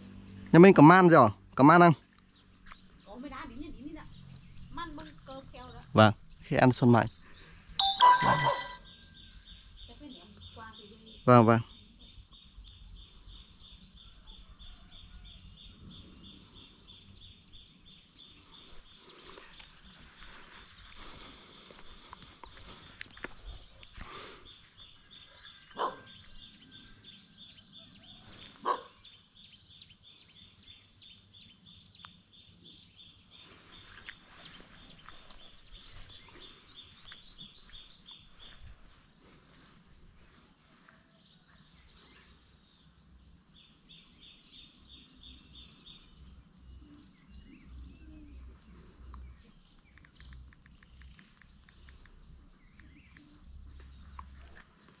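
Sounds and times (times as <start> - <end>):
birds chirping and trilling: 0.3 - 55.0.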